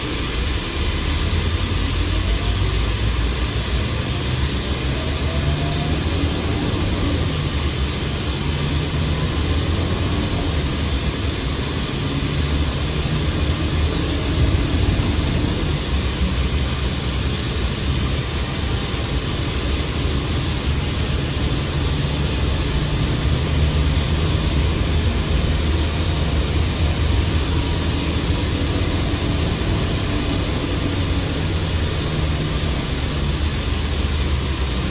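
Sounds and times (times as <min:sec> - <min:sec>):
bus engine drone: 0:00.0 - 0:34.9
road and air noise hiss: 0:00.0 - 0:34.9
faint rising whines: 0:00.3 - 0:34.9.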